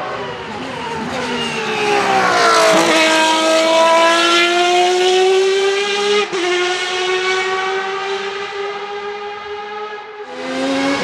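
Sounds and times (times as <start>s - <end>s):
racing engine accelerating: 0.0s - 11.0s.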